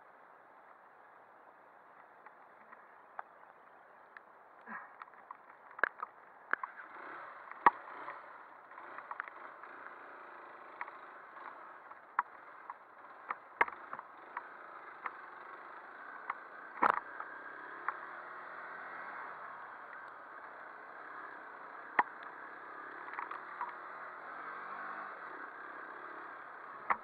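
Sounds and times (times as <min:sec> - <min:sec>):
dirt bike riding: 0:00.0 - 0:27.0.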